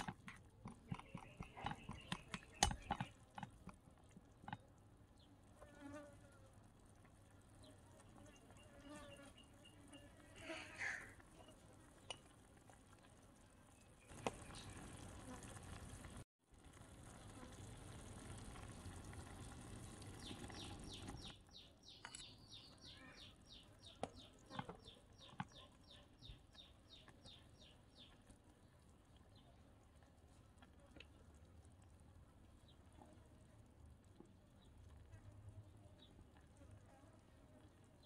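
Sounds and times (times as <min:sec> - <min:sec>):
curry simmering and sizzling: 0:00.0 - 0:38.0.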